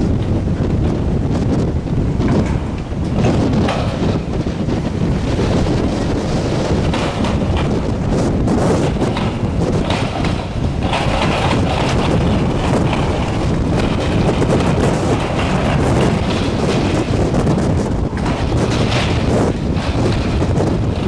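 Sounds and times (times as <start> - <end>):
rattles and knocks: 0.0 - 21.0
wind buffeting microphone: 0.0 - 21.0.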